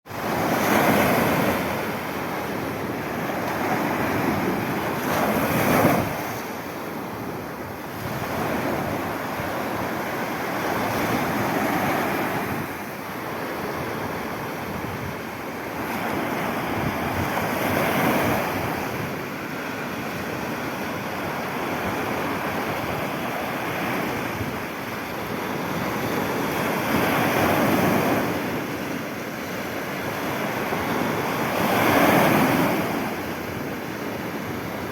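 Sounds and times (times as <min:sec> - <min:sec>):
waves breaking: 0:00.1 - 0:34.9.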